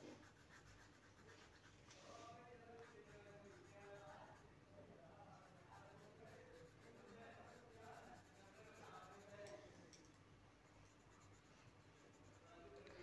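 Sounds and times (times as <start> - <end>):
coloured pencil scratching on paper: 0.0 - 4.5, 5.3 - 9.6, 10.8 - 13.0.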